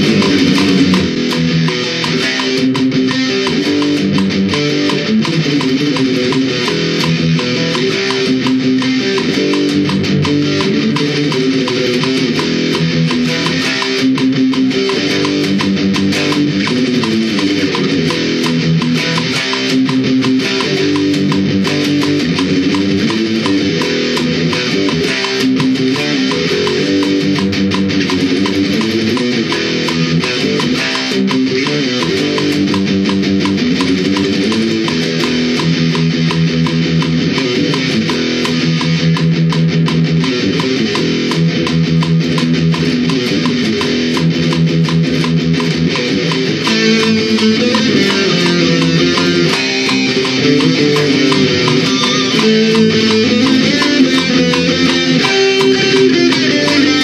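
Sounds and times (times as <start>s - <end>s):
distorted electric guitar riff: 0.0s - 57.0s.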